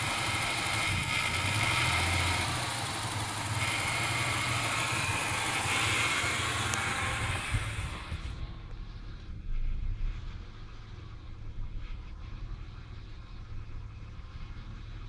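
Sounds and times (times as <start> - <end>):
car engine idling unevenly: 0.0 - 15.0.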